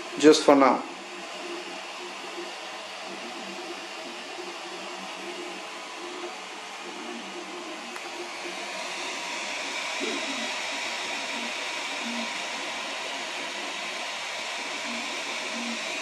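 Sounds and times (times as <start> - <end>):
cooling fans hissing: 0.0 - 16.0
stepper motor tones: 0.0 - 16.0.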